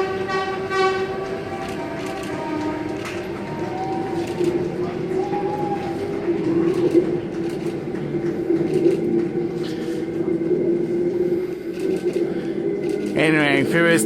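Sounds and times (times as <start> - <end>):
electric train running: 0.0 - 14.0.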